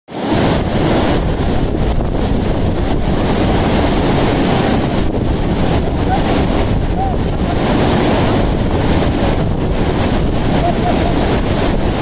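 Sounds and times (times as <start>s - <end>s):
river rushing over boulders: 0.1s - 12.0s.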